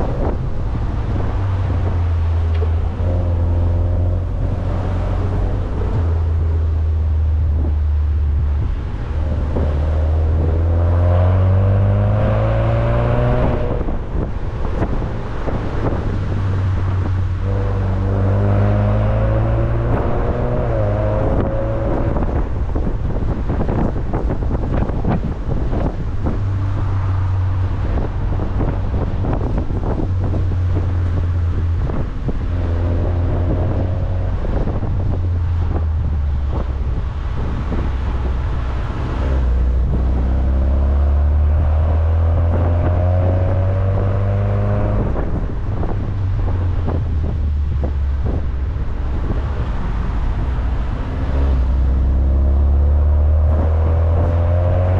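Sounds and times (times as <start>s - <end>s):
car engine accelerating: 0.0s - 54.9s
road and wind noise: 0.0s - 54.9s.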